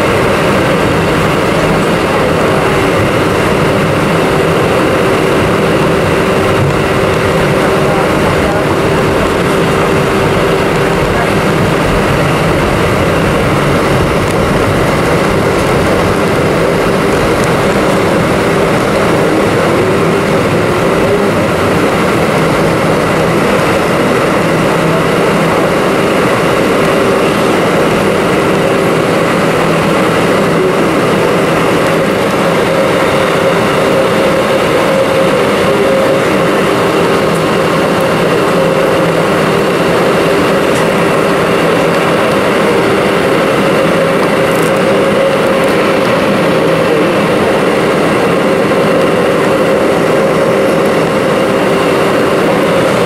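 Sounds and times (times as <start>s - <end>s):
jet engines droning: 0.0s - 53.0s.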